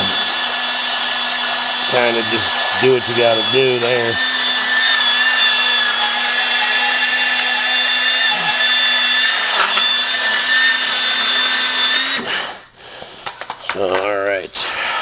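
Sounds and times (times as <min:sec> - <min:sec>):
power tool whining: 0:00.0 - 0:13.0.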